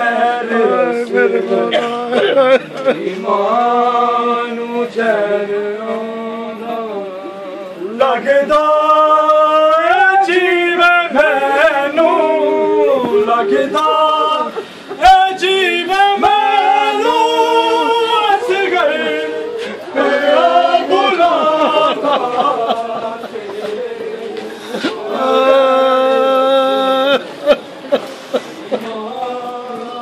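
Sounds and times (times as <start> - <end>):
men singing a lament: 0.0 - 27.6, 28.6 - 30.0.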